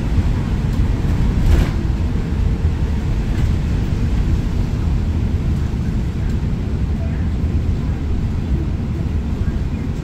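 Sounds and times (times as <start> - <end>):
bus engine low rumble: 0.0 - 10.0.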